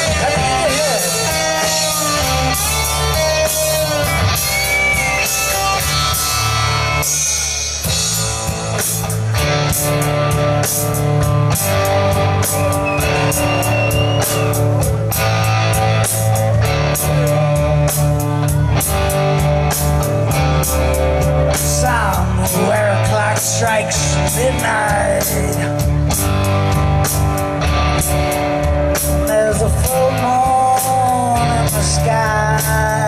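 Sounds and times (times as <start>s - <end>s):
drum kit beat: 0.0s - 33.0s
electric guitar: 0.0s - 33.0s.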